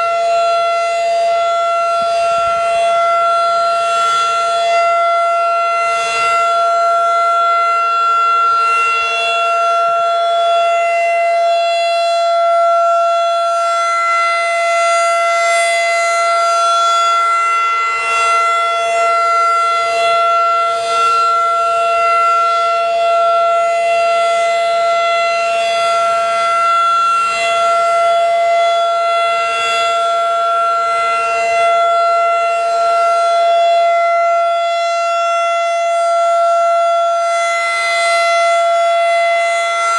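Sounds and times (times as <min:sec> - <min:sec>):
outdoor warning siren wailing: 0:00.0 - 0:39.9.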